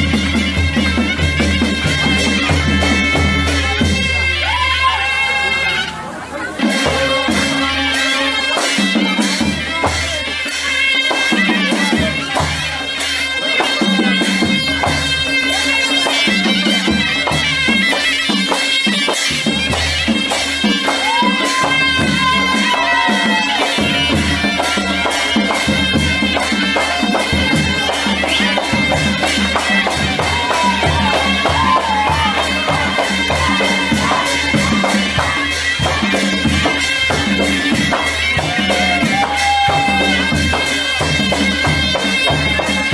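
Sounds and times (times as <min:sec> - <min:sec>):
fast drum and cymbal beat: 0:00.0 - 0:04.6, 0:06.6 - 0:42.9
reedy wind instrument melody: 0:00.0 - 0:42.9.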